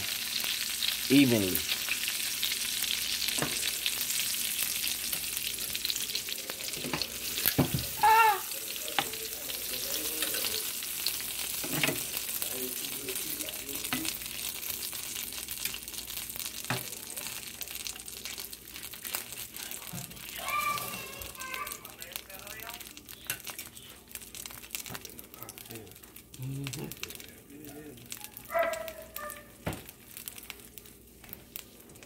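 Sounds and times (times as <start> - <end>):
meat sizzling in a pan: 0.0 - 32.0.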